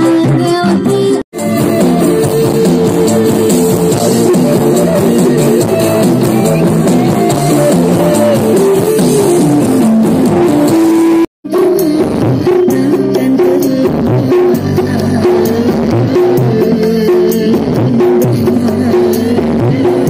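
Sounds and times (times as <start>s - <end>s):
loud music over sound system: 0.0s - 20.0s.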